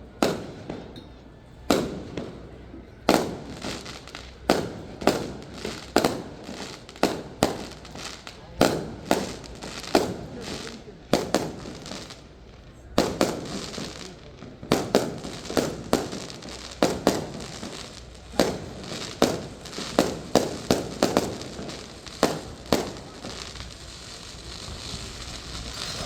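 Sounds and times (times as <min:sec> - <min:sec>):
fireworks bursting with bangs: 0:00.0 - 0:26.0.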